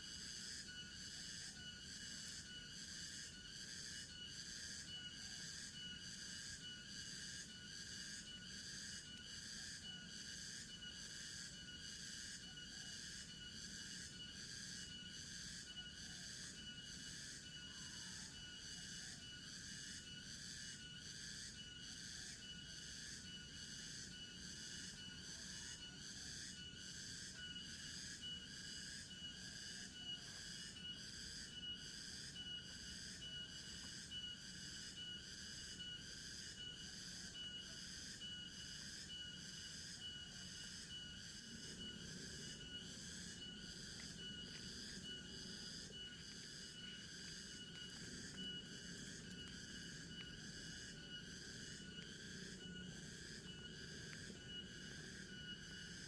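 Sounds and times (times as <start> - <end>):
faint whistled calls: 0.0 - 56.0
insects pulsing chorus: 0.0 - 56.0.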